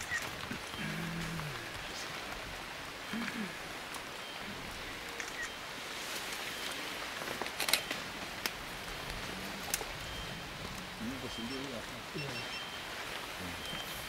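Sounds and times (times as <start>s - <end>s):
rainforest background hiss: 0.0s - 14.0s.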